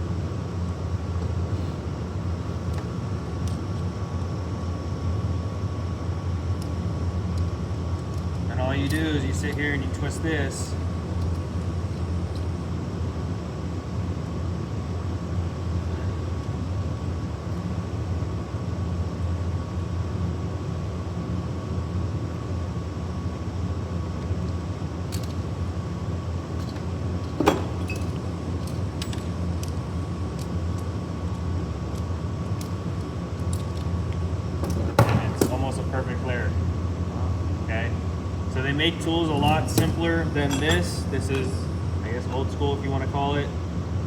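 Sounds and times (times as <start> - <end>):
low hum with high whine: 0.0 - 44.0.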